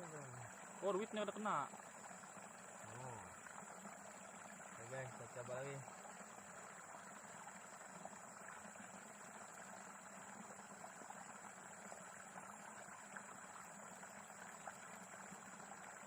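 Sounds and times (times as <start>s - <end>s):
outdoor background hiss: 0.0s - 16.0s
thin high steady tone: 0.0s - 16.0s.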